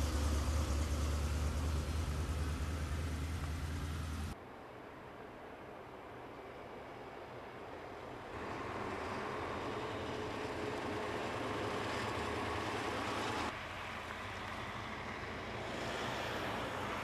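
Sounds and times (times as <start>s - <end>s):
vehicle engines rumbling: 0.0s - 4.4s, 7.7s - 17.0s
outdoor noise: 0.0s - 17.0s.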